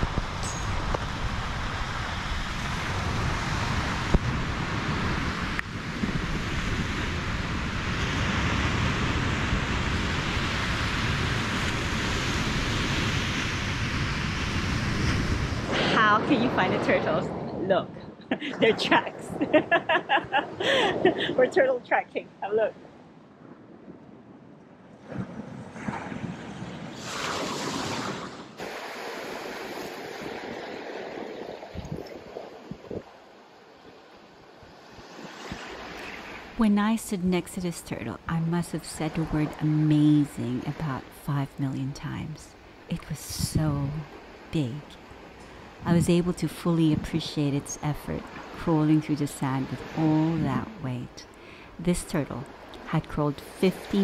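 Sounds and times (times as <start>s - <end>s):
surf: 0.0s - 24.0s, 25.0s - 54.0s
wind rumbling on microphone: 0.0s - 40.9s, 41.9s - 54.0s
wind: 0.0s - 54.0s.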